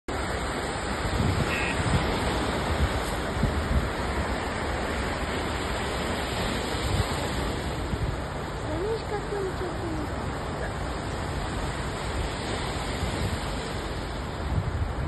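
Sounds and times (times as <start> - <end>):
small waves breaking on sand: 0.1 - 15.0.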